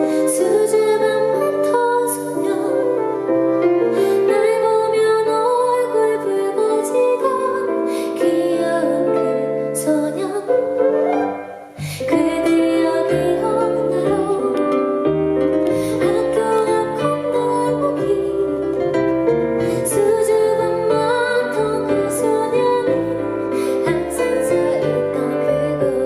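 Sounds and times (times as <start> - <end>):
woman singing: 0.0 - 19.0, 19.6 - 26.0
piano: 0.0 - 26.0.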